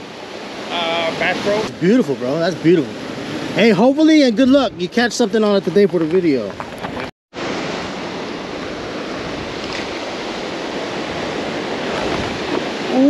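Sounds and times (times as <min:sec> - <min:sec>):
waves breaking on rocks: 0:00.0 - 0:13.0.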